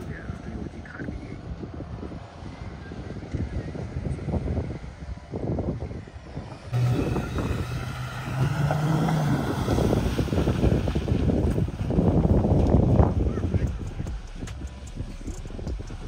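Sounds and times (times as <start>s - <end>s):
car engine running: 0.0s - 16.0s
low engine drone: 0.0s - 16.0s
wind buffeting microphone: 0.0s - 16.0s.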